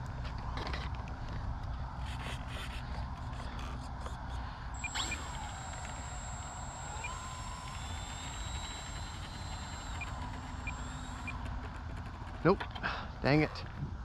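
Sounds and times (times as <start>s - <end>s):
electric motor and propeller whine: 0.0s - 14.0s.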